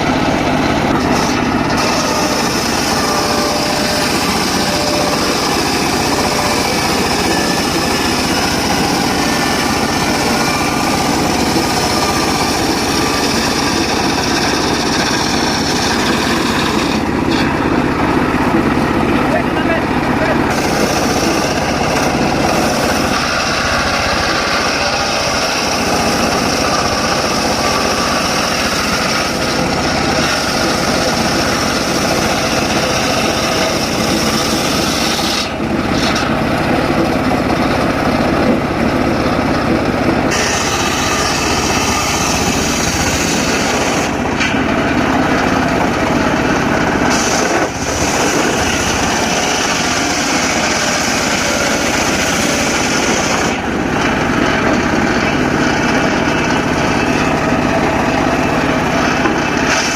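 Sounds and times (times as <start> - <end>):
circular saw cutting wood: 0.0 - 59.9.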